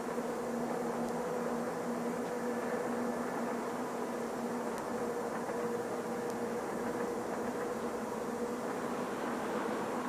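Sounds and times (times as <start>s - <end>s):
distant diesel train running: 0.0s - 10.0s
tape hiss: 0.0s - 10.0s.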